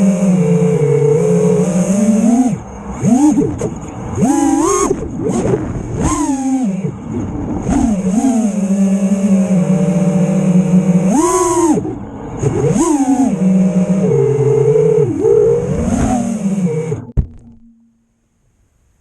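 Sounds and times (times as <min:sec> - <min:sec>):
quadcopter motors whining: 0:00.0 - 0:17.2.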